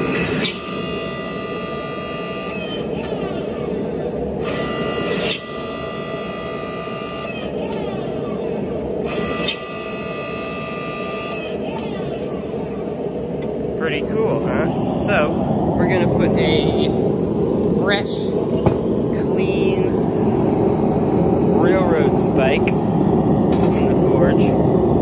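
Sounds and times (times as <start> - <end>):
hydraulic press motor whining: 0.0 - 24.1.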